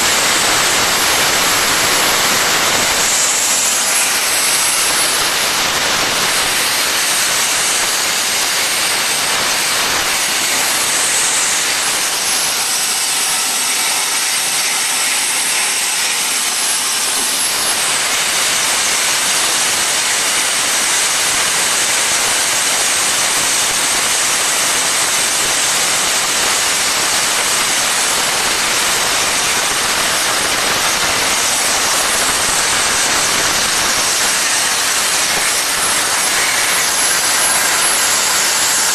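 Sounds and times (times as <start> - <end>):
plasma torch hissing: 0.0 - 19.8, 26.3 - 38.9.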